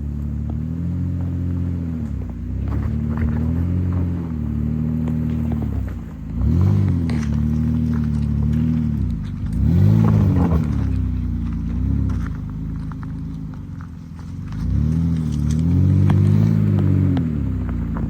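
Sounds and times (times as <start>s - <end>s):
car engine surging: 0.0s - 18.0s.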